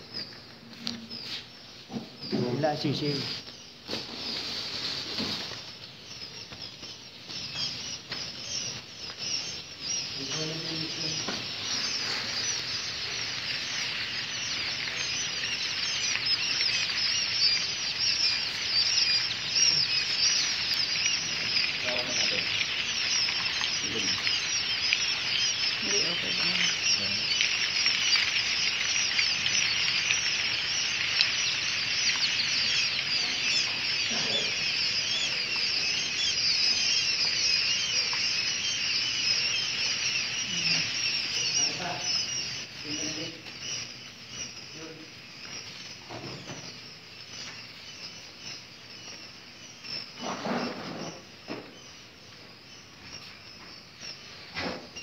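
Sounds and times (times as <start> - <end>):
quail chicks peeping: 0.0 - 55.0.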